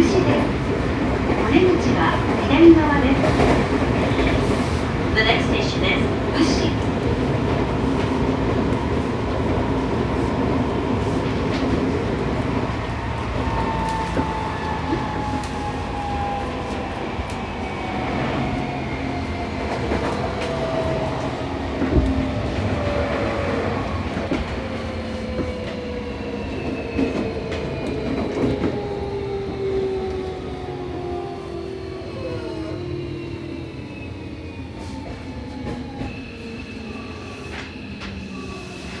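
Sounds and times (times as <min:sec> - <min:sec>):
train running noise: 0:00.0 - 0:39.0.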